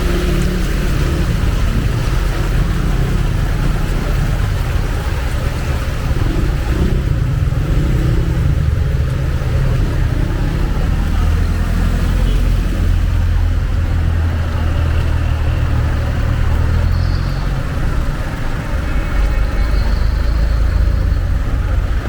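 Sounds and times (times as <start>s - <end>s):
heavy rain falling: 0.0s - 22.0s
vehicle engine running: 0.0s - 22.0s.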